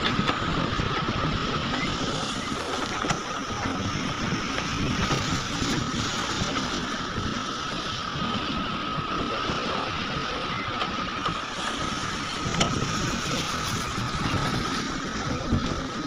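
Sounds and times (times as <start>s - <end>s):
heavy machinery engine rumbling: 0.0s - 16.0s.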